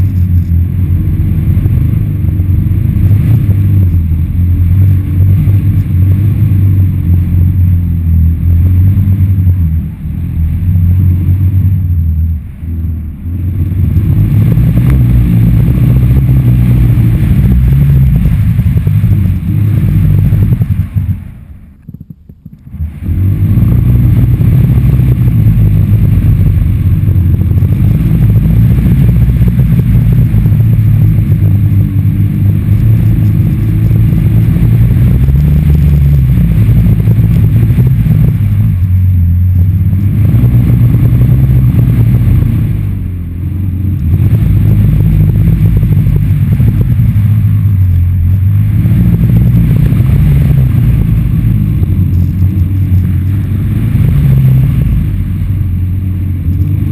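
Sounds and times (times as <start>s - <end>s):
wind buffeting camera microphone: 0.0s - 56.9s.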